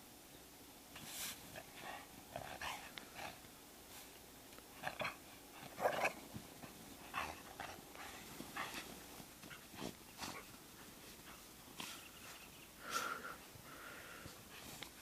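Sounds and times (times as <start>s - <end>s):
quiet dog noises: 0.9s - 15.0s.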